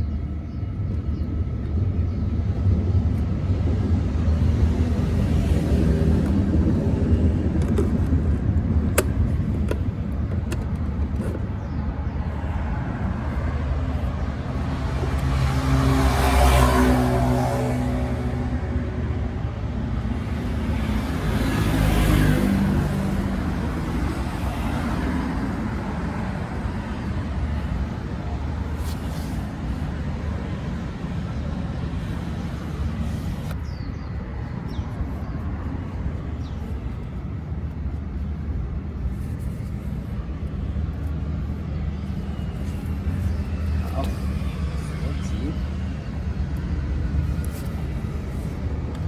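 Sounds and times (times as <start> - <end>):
road traffic passing: 0.0 - 49.0.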